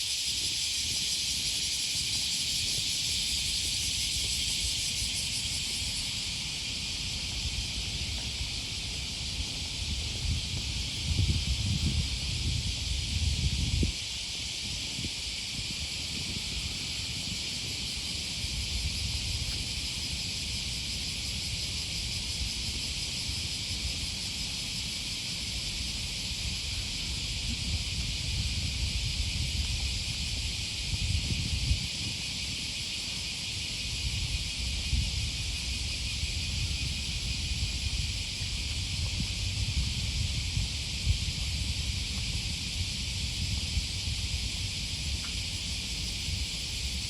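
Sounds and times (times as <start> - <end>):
cicadas buzzing: 0.0 - 47.0.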